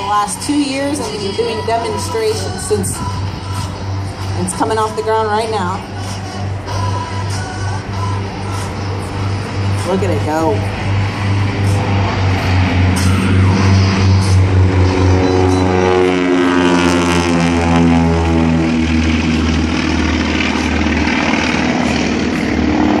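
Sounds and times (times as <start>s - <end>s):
propeller plane engines droning: 0.0s - 23.0s.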